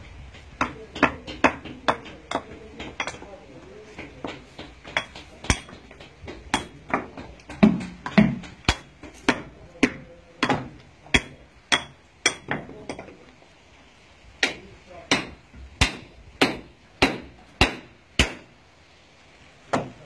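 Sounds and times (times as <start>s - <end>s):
hammer striking stone: 0.3s - 3.4s, 4.0s - 13.2s, 14.4s - 18.5s.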